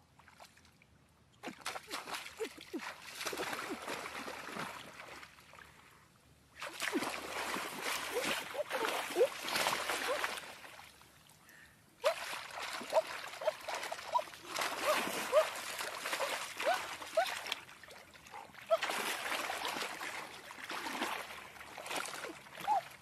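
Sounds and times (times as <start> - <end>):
muddy water splashing: 1.4 - 5.7, 6.6 - 23.0.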